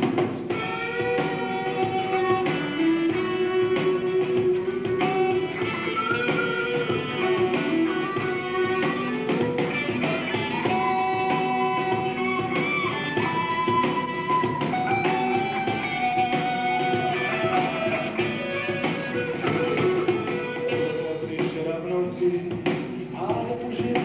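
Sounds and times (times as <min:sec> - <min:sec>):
drum kit: 0:00.0 - 0:24.0
electric guitars: 0:00.0 - 0:24.0.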